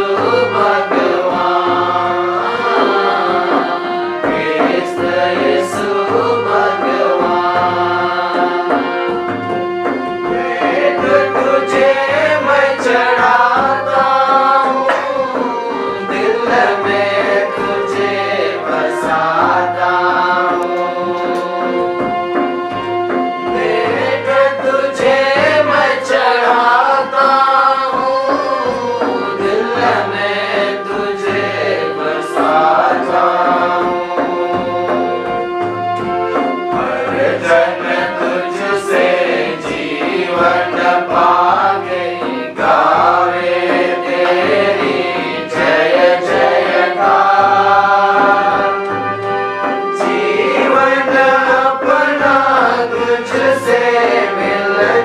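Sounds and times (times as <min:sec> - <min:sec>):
singing a hymn: 0:00.0 - 0:22.6, 0:23.3 - 0:35.6, 0:36.2 - 0:55.0
instrumental accompaniment: 0:00.0 - 0:55.0
regular low beat: 0:00.0 - 0:55.0.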